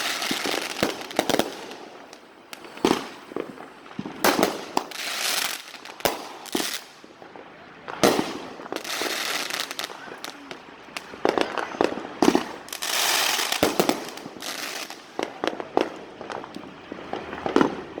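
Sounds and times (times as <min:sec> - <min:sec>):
fireworks bangs and pops: 0:00.0 - 0:18.0
fireworks hissing crackle: 0:00.0 - 0:18.0.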